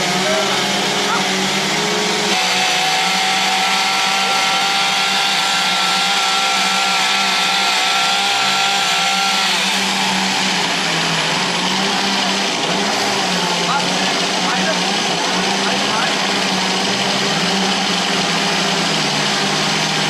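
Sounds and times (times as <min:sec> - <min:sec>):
chainsaws running: 0:00.0 - 0:20.0.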